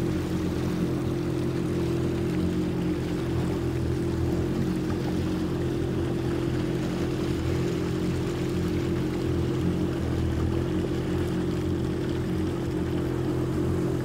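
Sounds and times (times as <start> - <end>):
watercraft engine droning: 0.0 - 14.0.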